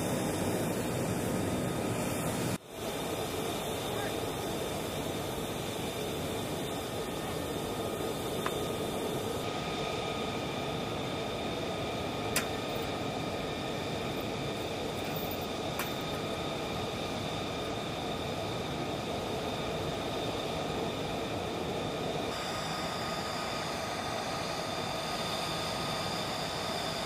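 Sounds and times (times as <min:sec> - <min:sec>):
high whining tones: 0:00.0 - 0:27.0
machinery drone: 0:00.0 - 0:27.0.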